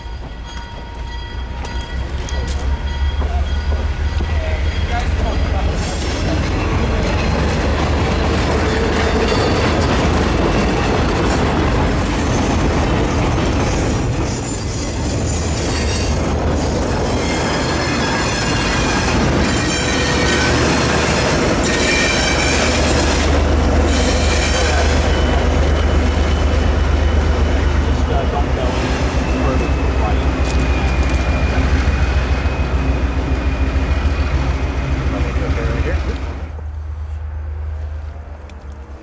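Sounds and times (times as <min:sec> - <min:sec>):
steel wheels squealing on rails: 0:00.0 - 0:11.0, 0:11.9 - 0:36.4
freight train rumbling: 0:00.0 - 0:39.0.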